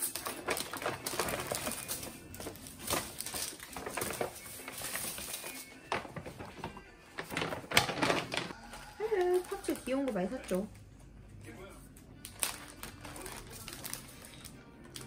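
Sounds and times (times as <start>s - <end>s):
paper bag rustling: 0.0s - 10.7s, 12.3s - 15.0s
plastic packets crinkling: 0.0s - 10.7s, 12.2s - 15.0s
background music: 0.0s - 15.0s.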